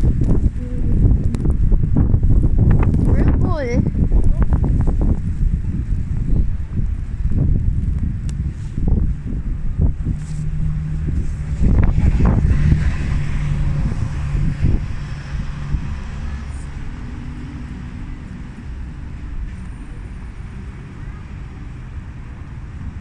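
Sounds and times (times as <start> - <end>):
street traffic noise: 0.0 - 23.0
vehicle engine rumbling: 0.0 - 23.0.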